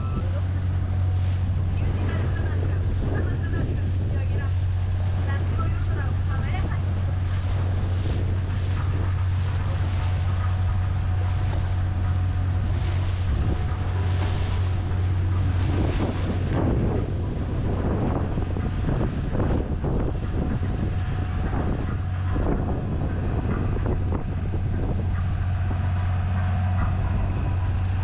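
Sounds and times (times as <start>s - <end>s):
boat engine droning: 0.0s - 28.0s
water washing past hull: 0.0s - 28.0s
wind buffeting microphone: 0.0s - 28.0s.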